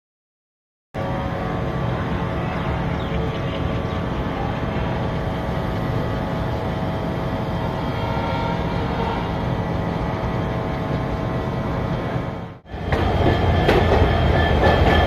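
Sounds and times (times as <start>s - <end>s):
locomotive engine droning: 1.0s - 15.0s.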